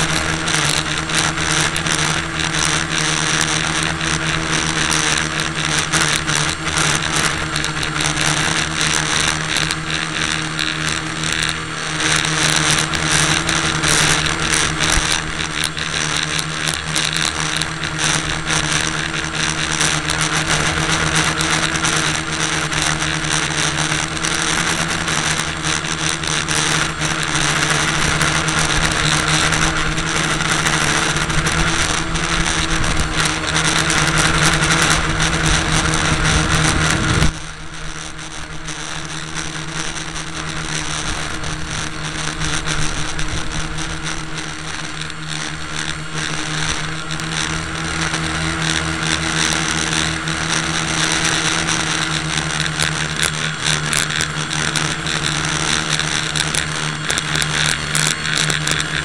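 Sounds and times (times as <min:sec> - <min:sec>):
small motor humming: 0:00.0 - 0:59.0.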